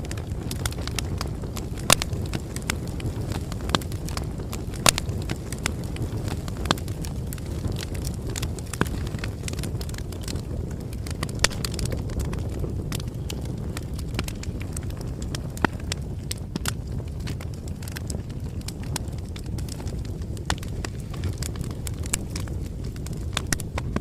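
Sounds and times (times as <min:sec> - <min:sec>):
loud snaps of fire: 0:00.0 - 0:24.0
wood fire crackling: 0:00.0 - 0:24.0.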